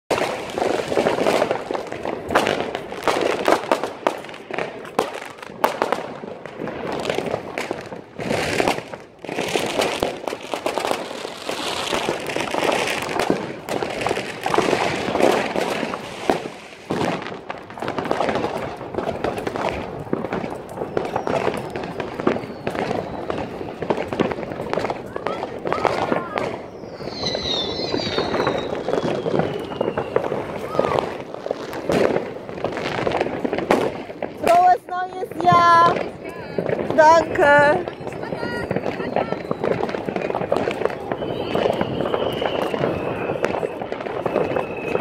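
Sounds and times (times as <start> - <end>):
fireworks bangs and crackles: 0.1 - 45.0.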